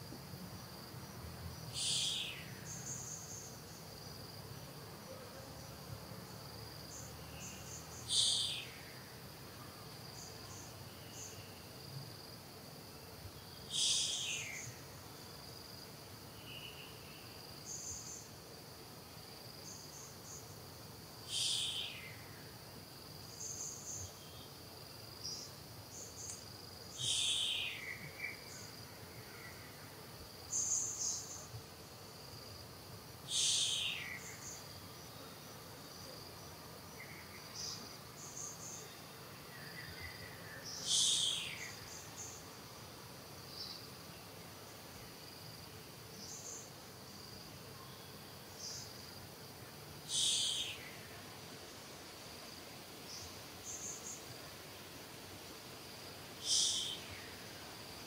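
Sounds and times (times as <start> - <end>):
insects droning and chirping: 0.0 - 58.0.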